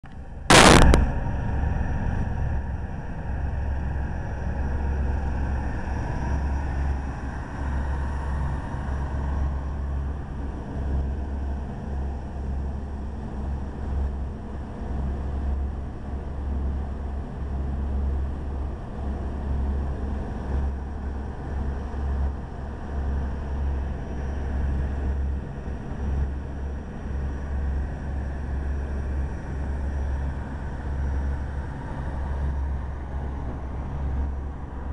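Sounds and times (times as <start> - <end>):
boat engines rumbling: 0.0 - 34.9.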